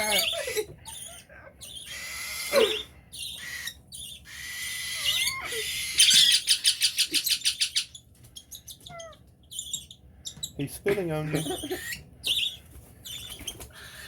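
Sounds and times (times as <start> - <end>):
parrot chicks begging cries: 0.0 - 14.0.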